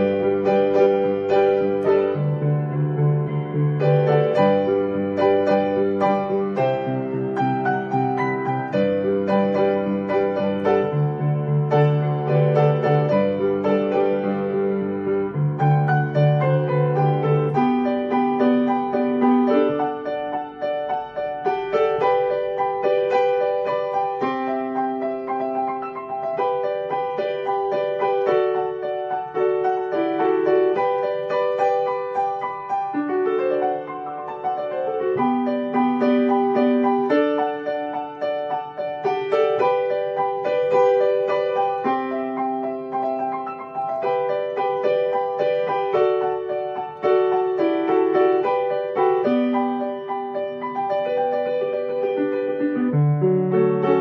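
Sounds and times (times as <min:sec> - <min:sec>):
calm piano music: 0:00.0 - 0:54.0.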